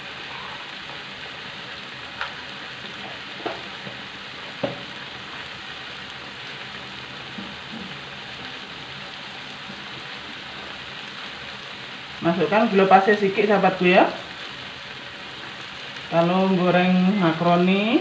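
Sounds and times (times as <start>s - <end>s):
food sizzling in a wok: 0.0s - 18.0s.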